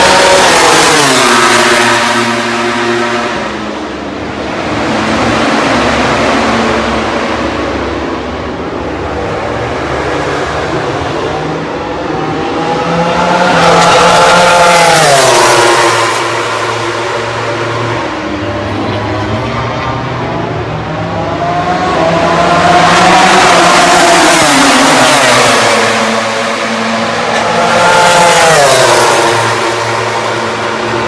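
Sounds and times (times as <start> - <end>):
racing motorcycles passing: 0.0 - 31.0.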